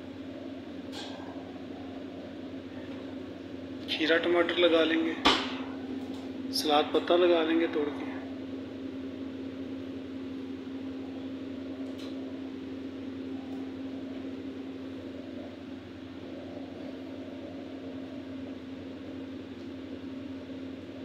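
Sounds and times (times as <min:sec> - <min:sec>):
fan motor humming: 0:00.0 - 0:21.0.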